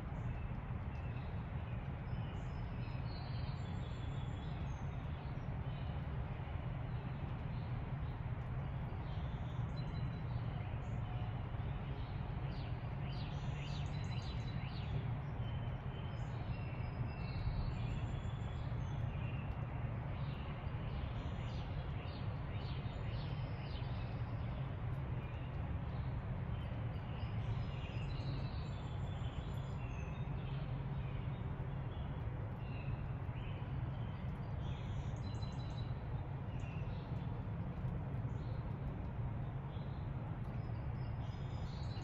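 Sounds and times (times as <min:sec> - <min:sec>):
low background rumble: 0:00.0 - 0:42.0
songbirds chirping and trilling: 0:00.0 - 0:42.0.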